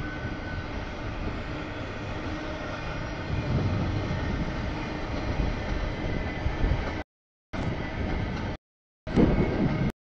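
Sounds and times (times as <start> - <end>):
freight train wheels rumbling on rail: 0.0 - 7.0, 7.6 - 9.9.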